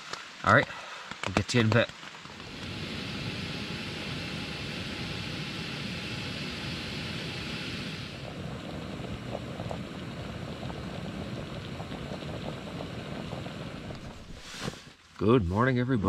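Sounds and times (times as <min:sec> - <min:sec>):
stove burner hissing: 0:00.0 - 0:15.4
ticks and pops of heating water: 0:01.0 - 0:14.4.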